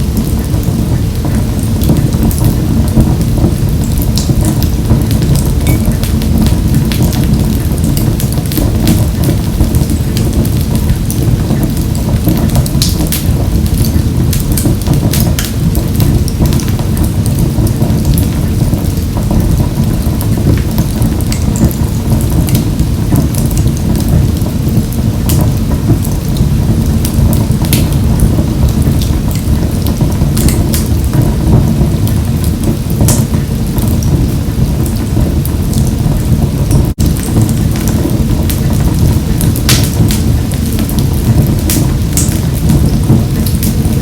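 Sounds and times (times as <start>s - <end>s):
fire crackles and pops: 0.0s - 44.0s
wood fire burning in a stove: 0.0s - 44.0s.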